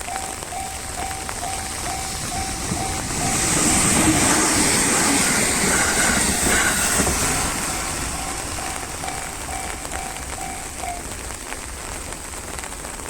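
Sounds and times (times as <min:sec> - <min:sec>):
crossing warning bell: 0:00.0 - 0:12.0
train wheels on rails: 0:00.0 - 0:13.0.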